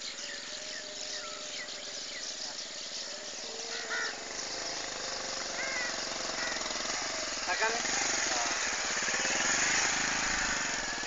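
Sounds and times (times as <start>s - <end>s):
birds chirping: 0.0s - 11.0s
motorcycle engine approaching: 0.0s - 11.0s.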